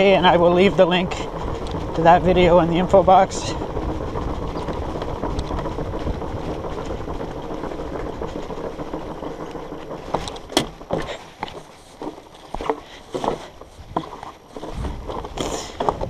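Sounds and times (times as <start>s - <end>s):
bike tyres rumbling over wood: 0.0s - 16.0s.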